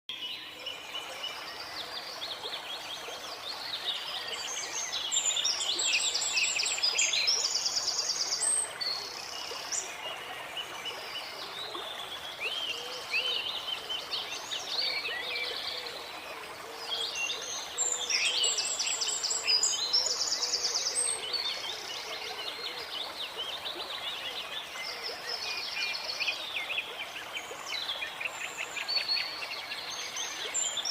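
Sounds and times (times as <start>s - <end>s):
running water: 0.1s - 30.9s
songbirds singing: 0.1s - 30.9s.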